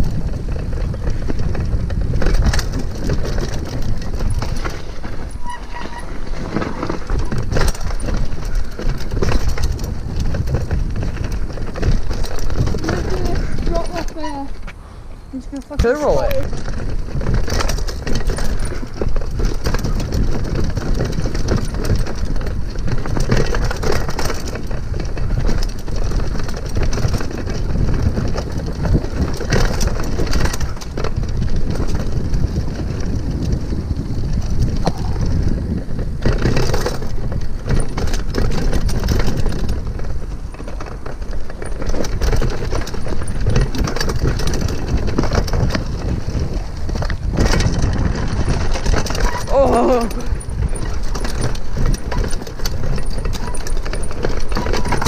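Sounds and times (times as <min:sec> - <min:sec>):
bike rattling and knocking: 0:00.0 - 0:14.8, 0:15.4 - 0:55.0
tyres on dirt: 0:00.0 - 0:55.0
wind rushing over microphone: 0:00.0 - 0:55.0.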